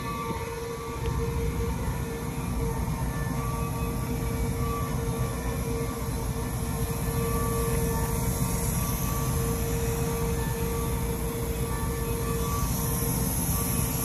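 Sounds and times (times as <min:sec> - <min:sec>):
mechanical drone: 0:00.0 - 0:14.0.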